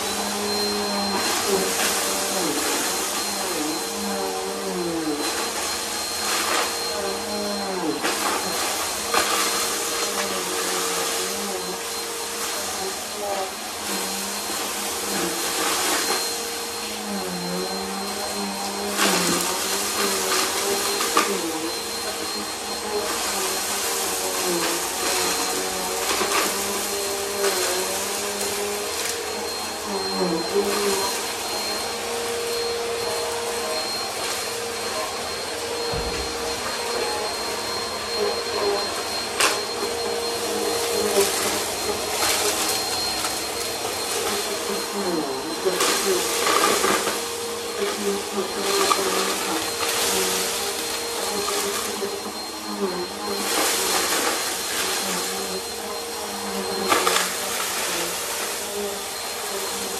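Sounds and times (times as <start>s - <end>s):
vacuum motor whine: 0.0s - 59.9s.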